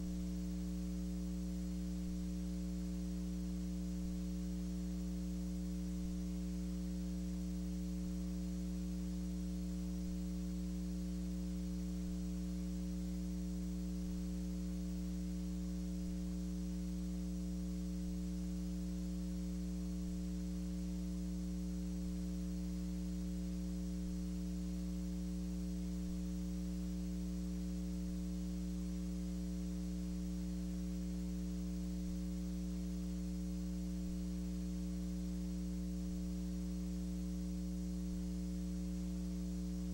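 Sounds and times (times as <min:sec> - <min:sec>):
faint hiss: 0:00.0 - 0:39.9
mains hum: 0:00.0 - 0:39.9.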